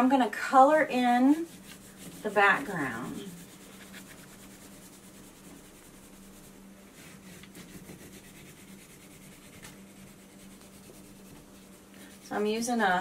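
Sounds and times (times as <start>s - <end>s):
crayon scribbling on paper: 1.0s - 12.6s.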